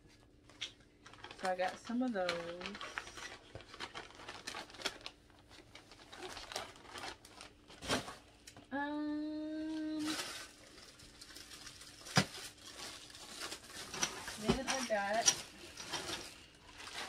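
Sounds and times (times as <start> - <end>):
packaging crinkling and rustling: 0.2 - 8.7, 9.6 - 17.0.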